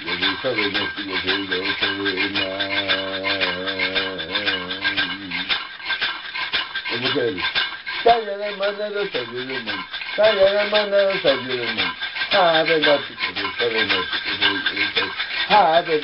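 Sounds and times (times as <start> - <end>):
man singing a chant: 0.0 - 5.5, 8.1 - 16.0
handheld rattle shaking: 0.0 - 16.0.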